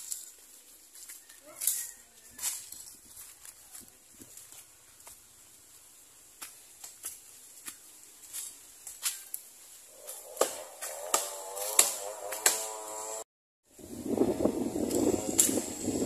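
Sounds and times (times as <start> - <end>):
footsteps crunching through dry leaves: 0.0 - 13.2.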